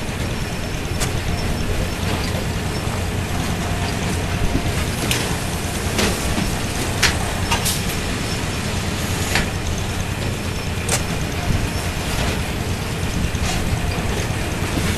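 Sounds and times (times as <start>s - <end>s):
low engine hum: 0.0s - 14.9s.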